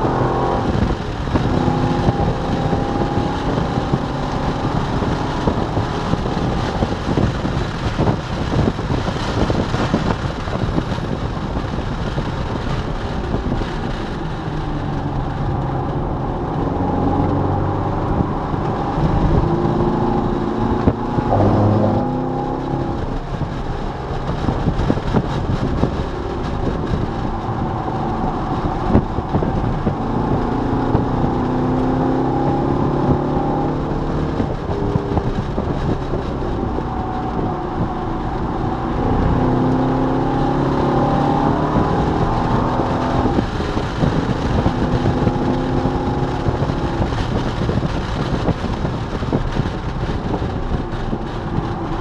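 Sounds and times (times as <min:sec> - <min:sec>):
car engine revving: 0:00.0 - 0:52.0
wind and road noise: 0:00.0 - 0:52.0.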